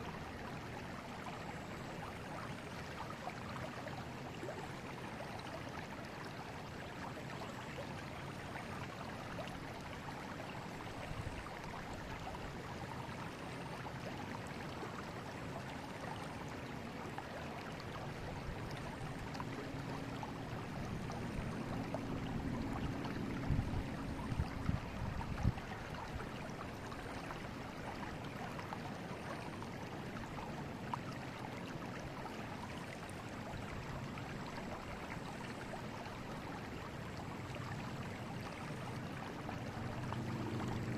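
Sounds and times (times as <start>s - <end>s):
river flowing over stones: 0.0s - 40.9s.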